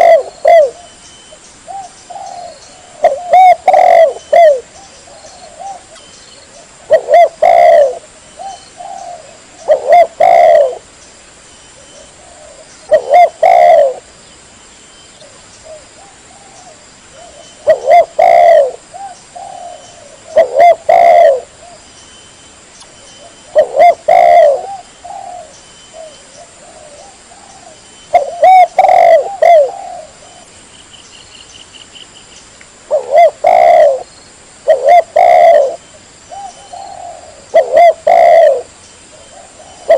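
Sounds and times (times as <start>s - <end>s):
dove cooing: 0.0s - 1.0s, 1.7s - 10.9s, 11.8s - 14.1s, 15.2s - 21.8s, 23.2s - 30.5s, 32.9s - 39.9s.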